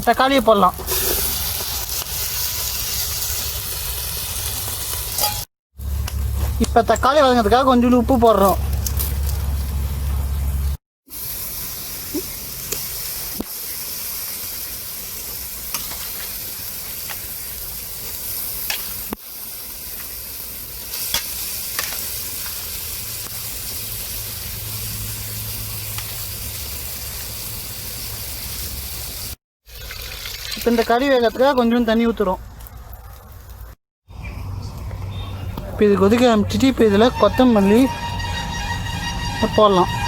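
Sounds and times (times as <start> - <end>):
masala sizzling in hot oil: 0.0 - 7.2, 8.4 - 33.8.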